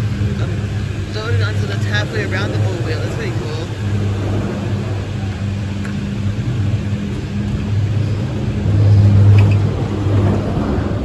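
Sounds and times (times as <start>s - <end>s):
chairlift machinery humming: 0.0s - 11.0s.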